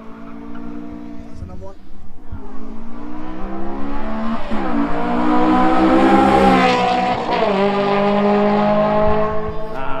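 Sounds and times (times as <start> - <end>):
go-kart engine accelerating: 0.0 - 10.0.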